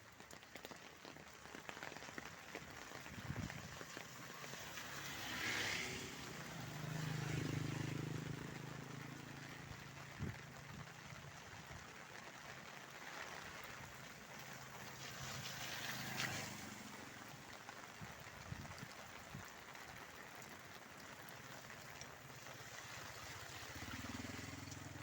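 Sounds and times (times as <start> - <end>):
rain hissing: 0.0 - 25.0
running river water: 0.0 - 25.0.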